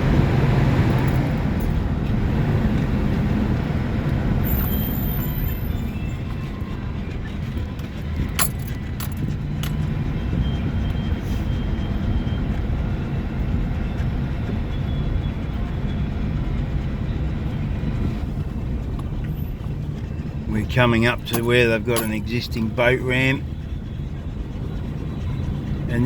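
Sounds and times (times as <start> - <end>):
car tyres and engine rumble: 0.0 - 26.0.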